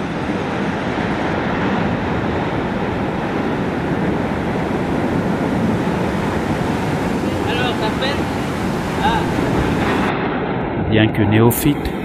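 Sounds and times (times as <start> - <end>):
volcanic eruption roar: 0.0 - 12.0.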